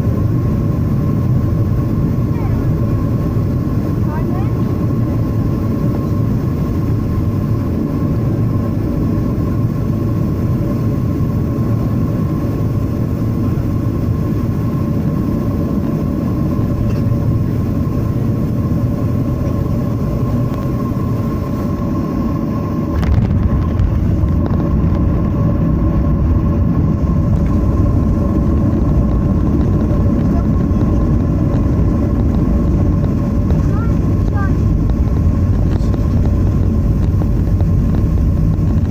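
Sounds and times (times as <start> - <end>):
aircraft cabin engine rumble: 0.0 - 38.9
steady humming tones: 0.0 - 38.9.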